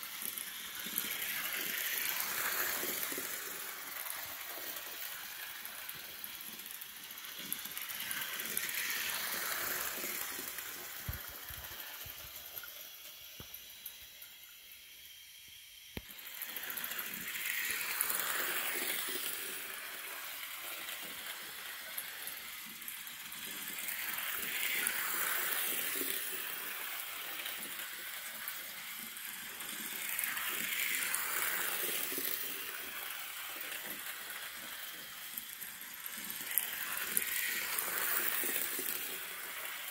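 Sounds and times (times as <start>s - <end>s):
model steam locomotive running: 0.0s - 39.9s.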